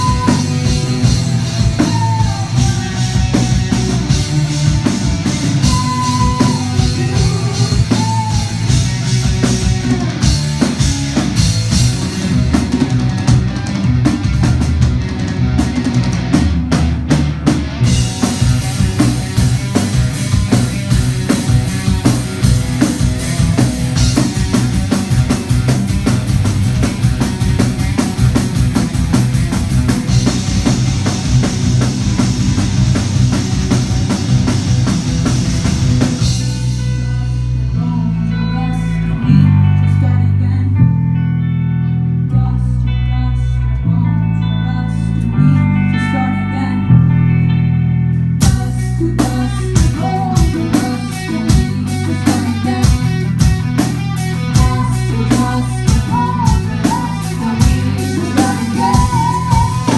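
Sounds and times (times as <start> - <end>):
drum kit: 0.0 - 37.6, 48.4 - 59.9
electric guitar: 0.0 - 59.9
rock band playing live: 0.0 - 59.9.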